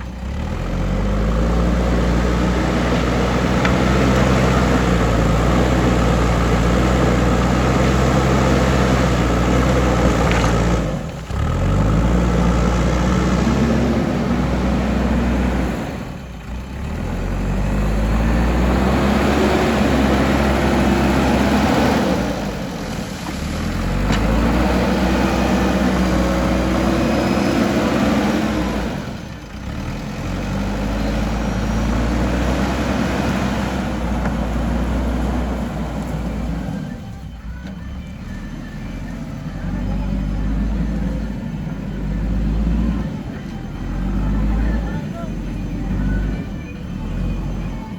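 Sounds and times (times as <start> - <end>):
diesel engine working under load: 0.0 - 47.9.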